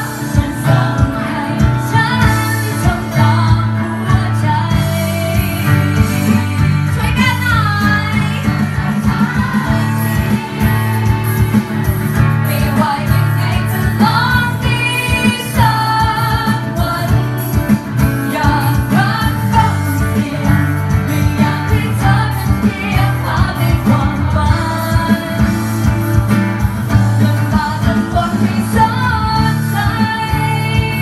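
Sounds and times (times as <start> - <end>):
acoustic guitar: 0.0 - 31.0
woman singing into microphone: 0.0 - 31.0.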